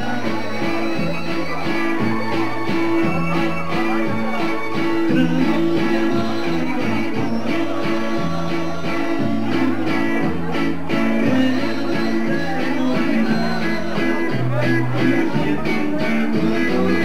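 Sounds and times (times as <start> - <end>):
bass line: 0.0 - 17.0
guitar: 0.0 - 17.0.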